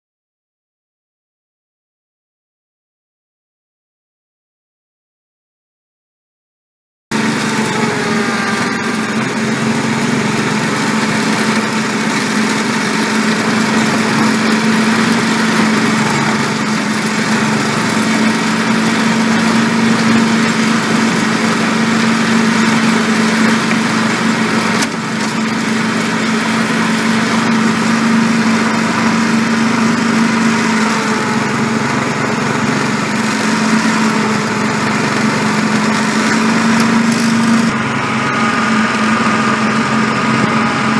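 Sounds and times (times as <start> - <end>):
small locomotive engine hum: 7.1 - 40.9.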